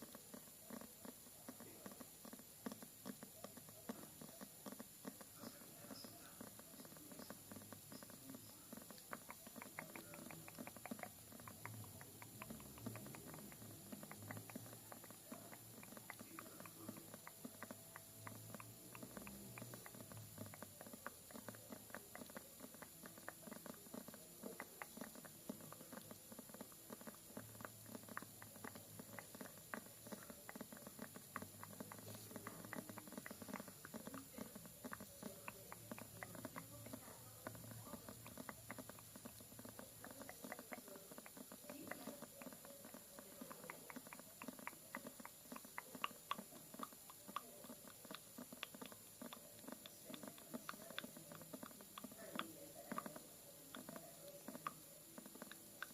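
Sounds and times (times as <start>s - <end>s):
soft asmr tapping and clicks: 0.0s - 55.9s.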